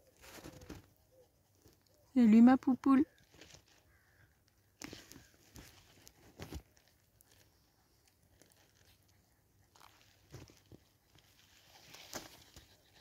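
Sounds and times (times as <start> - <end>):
faint rustles and crunches in grass: 0.0 - 13.0.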